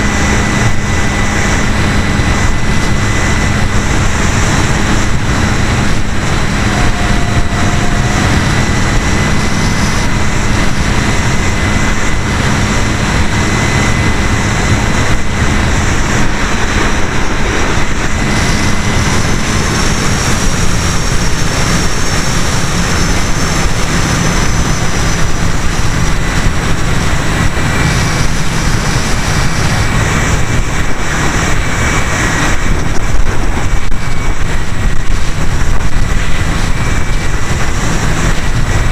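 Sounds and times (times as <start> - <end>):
model plane electric motor: 0.0 - 38.9
rushing wind noise: 0.0 - 38.9.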